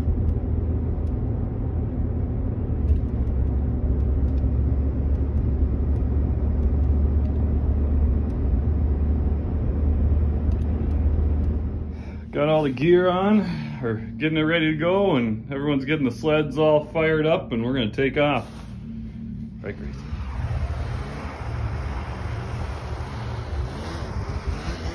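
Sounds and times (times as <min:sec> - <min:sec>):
truck tyres and engine rumble: 0:00.0 - 0:24.9.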